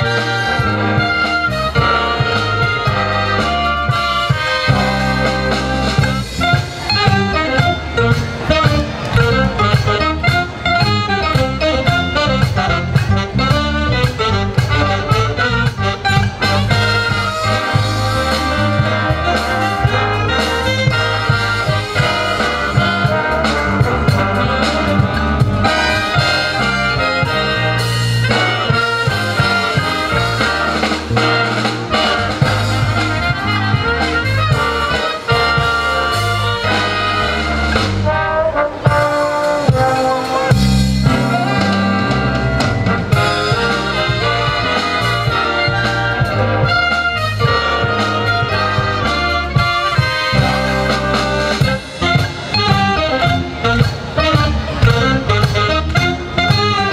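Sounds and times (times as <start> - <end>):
big band playing jazz: 0.0 - 56.9
drum kit: 0.0 - 56.9.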